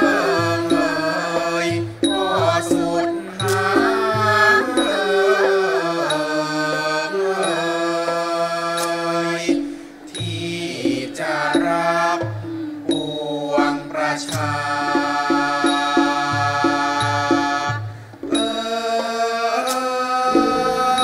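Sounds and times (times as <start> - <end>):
male chorus singing: 0.0 - 21.0.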